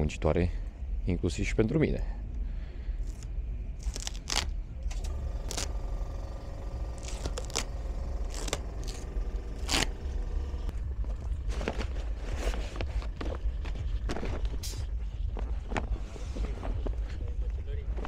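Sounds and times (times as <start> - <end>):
faint hum: 0.0 - 18.0
low rumble: 0.0 - 18.0.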